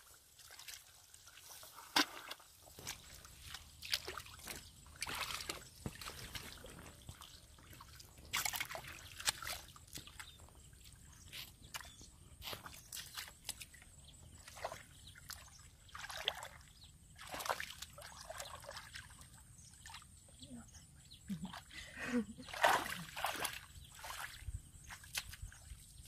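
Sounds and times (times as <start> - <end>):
muddy water sloshing: 0.0 - 20.4, 21.2 - 26.0
bare feet squelching in mud: 0.3 - 19.2, 22.4 - 26.0.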